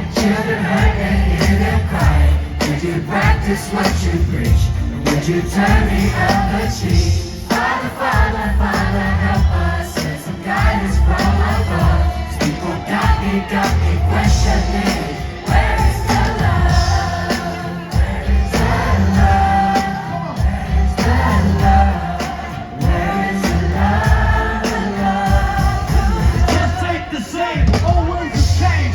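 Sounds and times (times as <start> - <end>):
pulsing bass beat: 0.0 - 7.4, 8.2 - 10.0, 10.6 - 27.0, 27.6 - 28.9
live pop music over a pa: 0.0 - 28.9.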